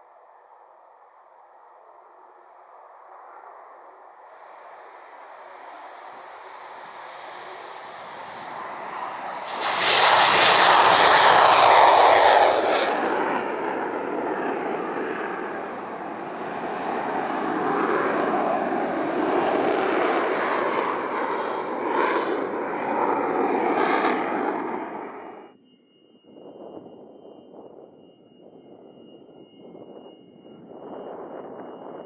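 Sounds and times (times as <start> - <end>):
jet engines roaring at takeoff: 1.9 - 25.6, 26.4 - 32.0.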